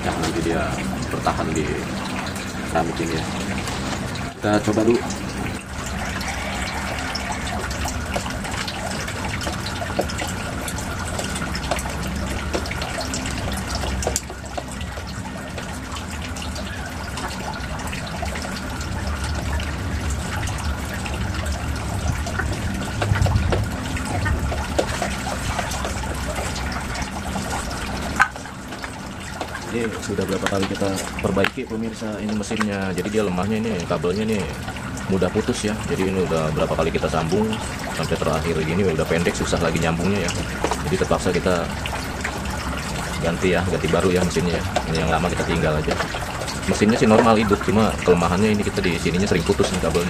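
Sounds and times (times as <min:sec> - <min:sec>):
water pouring into pond: 0:00.0 - 0:50.0.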